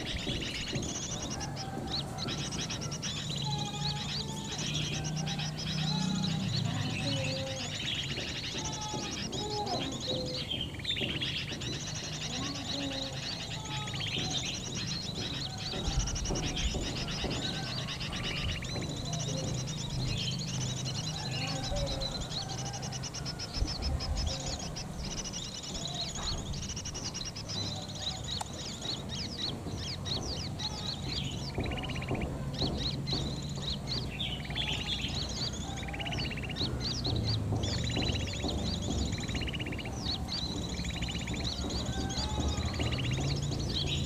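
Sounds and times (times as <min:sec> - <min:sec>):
bird chirping from speaker: 0:00.0 - 0:44.0.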